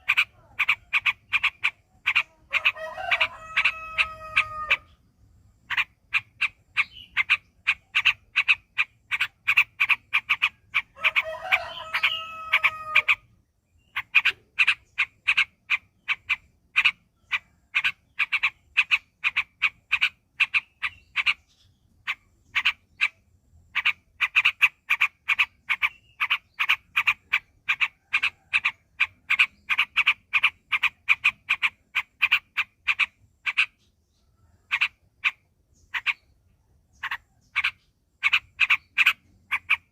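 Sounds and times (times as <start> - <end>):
bird chirping rapidly: 0.0 - 39.9
drawn-out steady-pitched call: 0.0 - 39.9.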